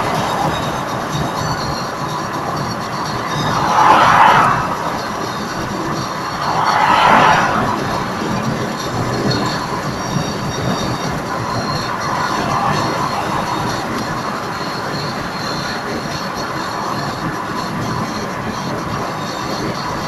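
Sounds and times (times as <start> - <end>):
car tyre and wind noise: 0.0 - 20.0
traffic passing close by: 0.0 - 20.0.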